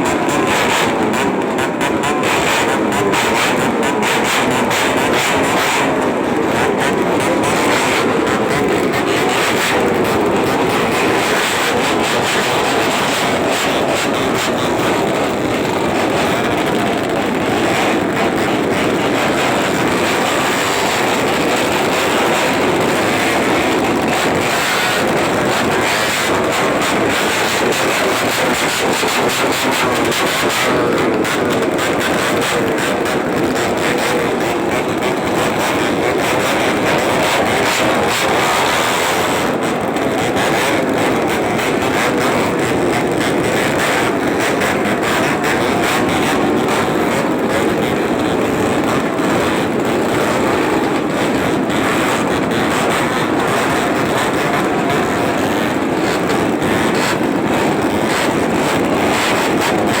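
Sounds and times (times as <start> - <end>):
motorcycle racing exhaust: 0.0 - 60.0.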